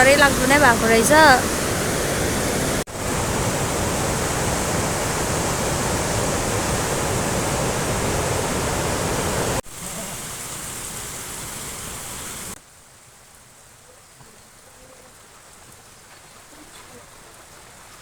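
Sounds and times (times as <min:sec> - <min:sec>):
flooding river rushing: 0:00.0 - 0:18.0.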